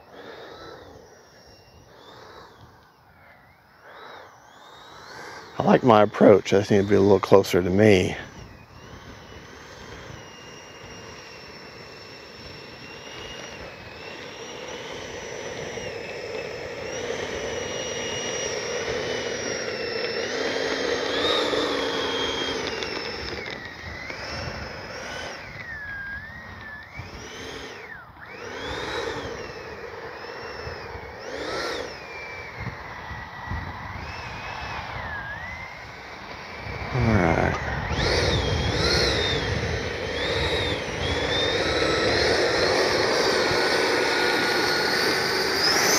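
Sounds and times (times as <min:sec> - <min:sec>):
electric ducted fan whining: 0:00.0 - 0:45.9.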